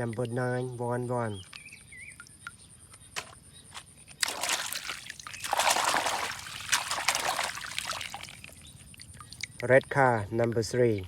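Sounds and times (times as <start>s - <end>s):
water splashing and trickling: 0.0s - 1.4s, 2.1s - 11.0s.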